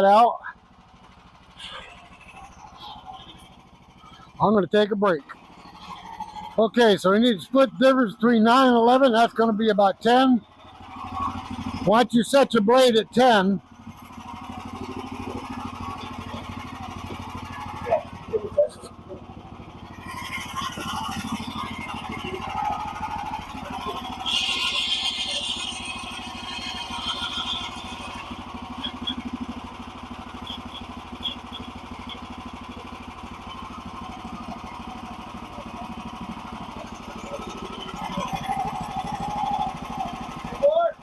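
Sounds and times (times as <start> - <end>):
gas engine idling: 0.0 - 41.0.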